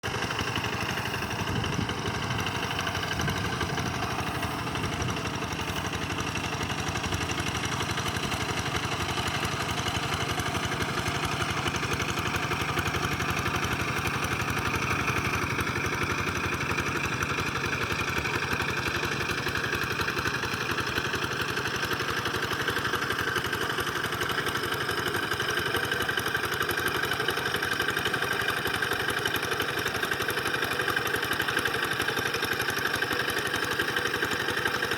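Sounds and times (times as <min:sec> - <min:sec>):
small tractor engine running: 0:00.0 - 0:34.9.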